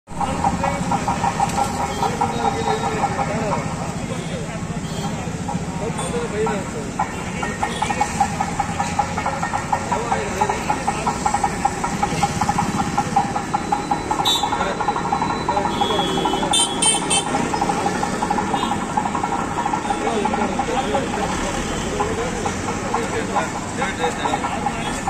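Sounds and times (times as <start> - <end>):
indistinct voices: 0.1 - 25.0
vehicle engines running: 0.1 - 25.0.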